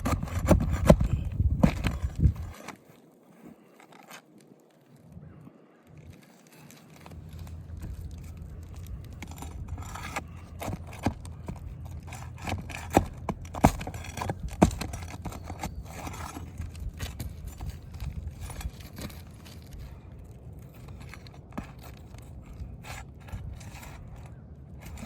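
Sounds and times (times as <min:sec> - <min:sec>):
steady low rumble: 0:00.0 - 0:02.5, 0:07.0 - 0:25.0
tools scraping on roof shingles: 0:00.0 - 0:04.7, 0:06.1 - 0:25.0.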